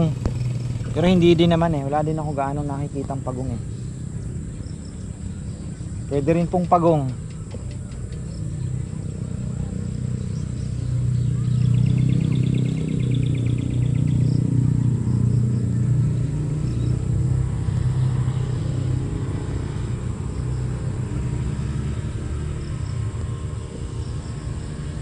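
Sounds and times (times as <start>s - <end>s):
vehicle engine rumble: 0.0s - 25.0s.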